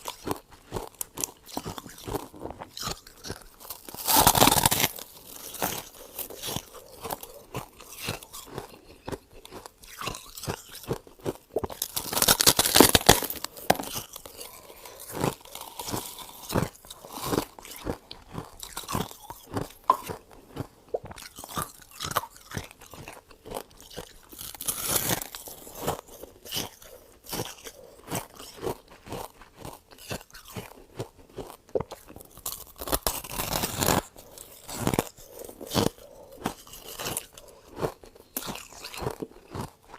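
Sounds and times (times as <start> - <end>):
crisp crunches of chewing frost: 0.0 - 39.9.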